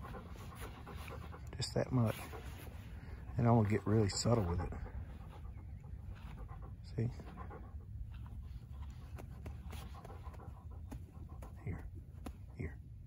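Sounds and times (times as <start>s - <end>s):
dog low vocal sound: 0.0s - 13.0s
dog panting: 0.0s - 13.0s.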